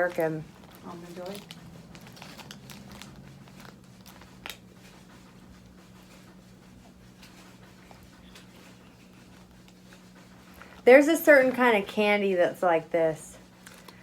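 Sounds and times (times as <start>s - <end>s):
faint clicks and rustles: 0.0s - 12.0s, 13.4s - 14.0s
low room hum: 0.0s - 14.0s.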